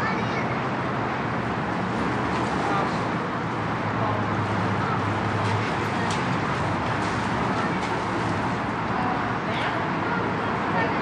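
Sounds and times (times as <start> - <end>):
children and adults talking: 0.0 - 11.0
steady background noise: 0.0 - 11.0.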